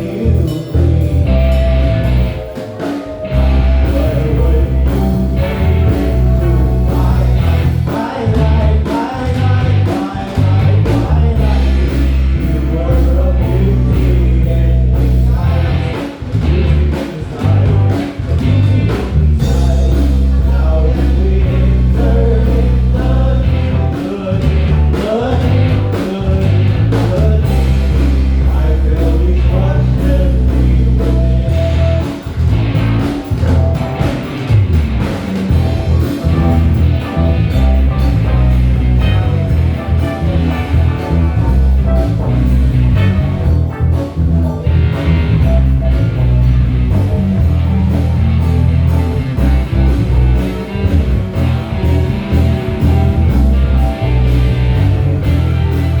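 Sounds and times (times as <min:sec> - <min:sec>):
melodic lead line: 0:00.0 - 0:17.0, 0:17.6 - 0:56.0
drum kit groove: 0:00.0 - 0:56.0
electric bass: 0:00.0 - 0:56.0
keyboard chords: 0:00.0 - 0:56.0.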